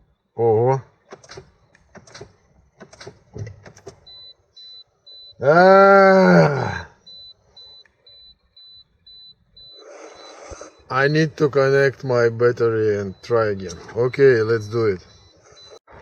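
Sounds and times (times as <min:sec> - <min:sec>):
car warning buzzer beeping: 0:00.0 - 0:16.0.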